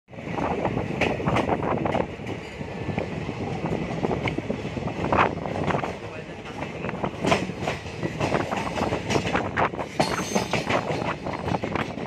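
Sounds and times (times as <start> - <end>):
train rumble: 0.1 - 12.0
train wheels clattering on rails: 0.2 - 12.0.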